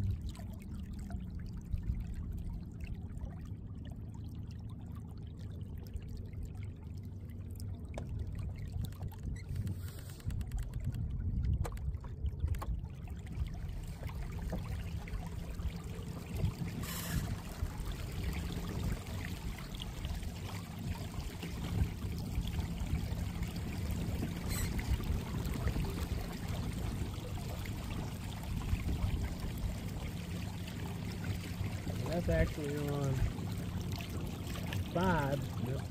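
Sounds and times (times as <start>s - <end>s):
water rushing along hull: 0.0s - 35.9s.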